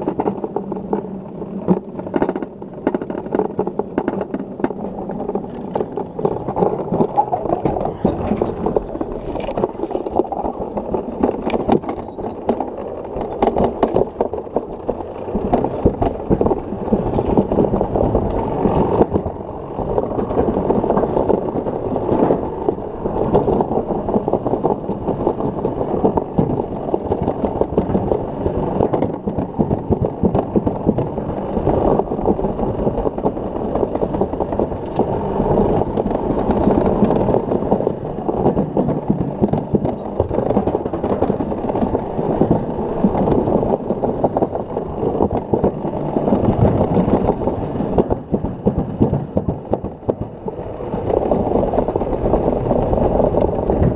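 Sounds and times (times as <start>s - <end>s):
sled knocking and rattling: 0.0s - 53.9s
sled rumbling down metal track: 0.0s - 53.9s.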